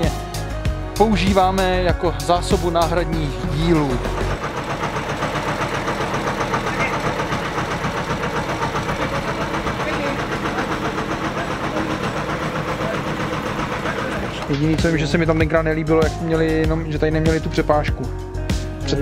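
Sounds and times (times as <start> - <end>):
engine idling with pulsing beat: 2.4 - 18.7.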